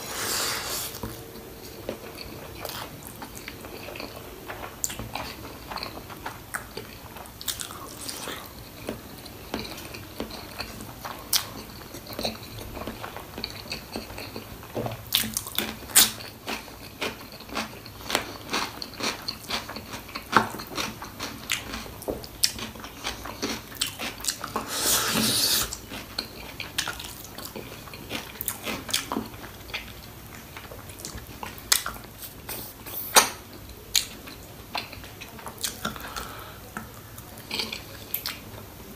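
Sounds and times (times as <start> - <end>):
person chewing and crunching food: 0.0 - 38.5.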